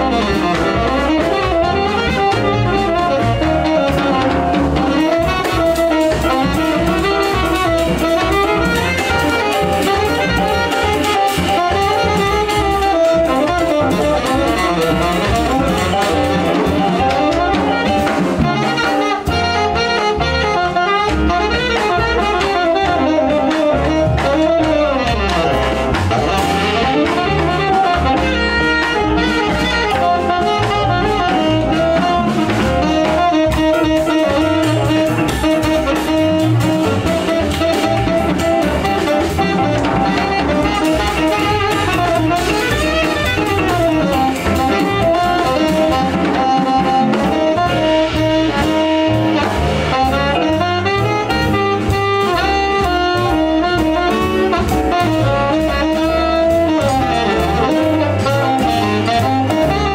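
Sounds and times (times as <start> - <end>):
drums: 0.0 - 59.9
plucked double bass: 0.0 - 59.9
tenor saxophone lead: 0.0 - 59.9.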